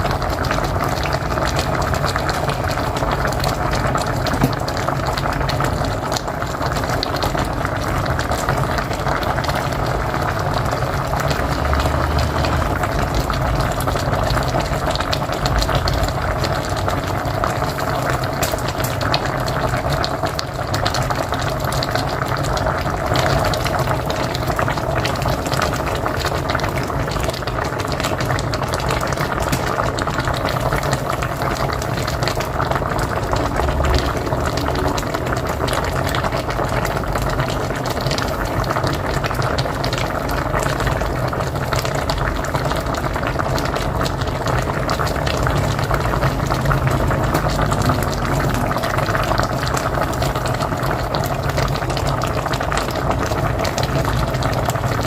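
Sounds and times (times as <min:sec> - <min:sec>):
stew pot boiling and bubbling: 0:00.0 - 0:55.0.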